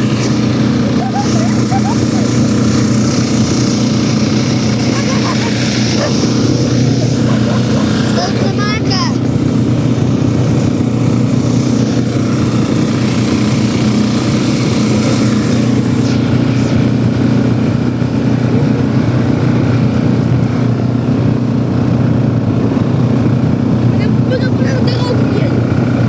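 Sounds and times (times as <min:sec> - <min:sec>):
walk-behind tractor engine running: 0:00.0 - 0:26.0.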